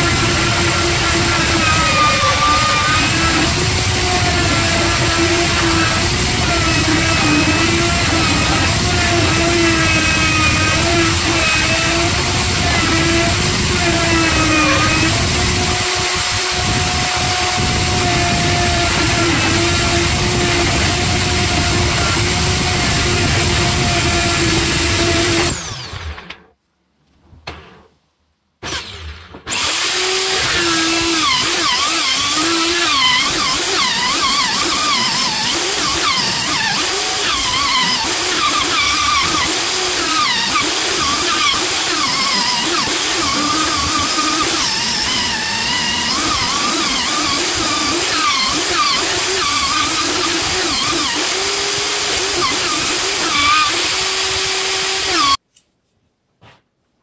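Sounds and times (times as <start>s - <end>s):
power tool working wood: 0.0s - 26.4s, 28.7s - 55.4s.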